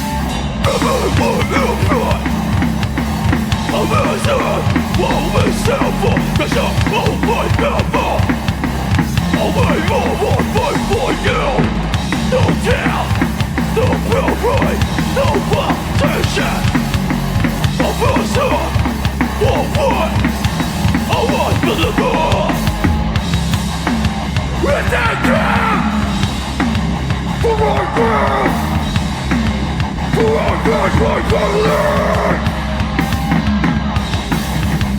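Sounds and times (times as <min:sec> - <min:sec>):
driving drum kit: 0:00.0 - 0:34.9
hardcore band playing live: 0:00.0 - 0:34.9.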